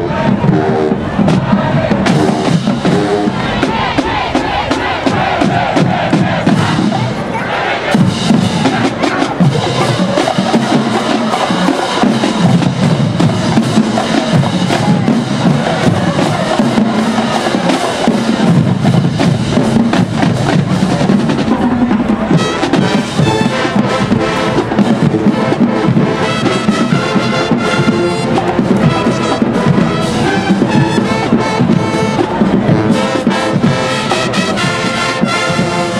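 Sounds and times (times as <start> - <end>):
band horns: 0.0 - 35.9
drumline snare and bass drums: 0.0 - 35.9.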